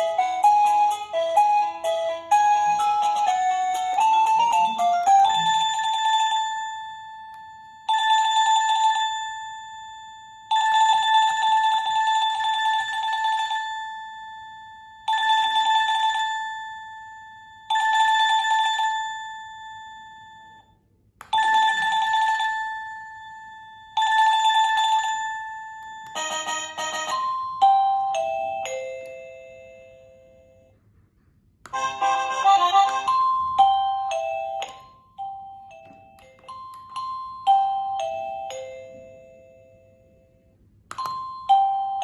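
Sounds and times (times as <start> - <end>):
electronic doorbell chimes: 0.0 - 30.8, 31.8 - 42.0.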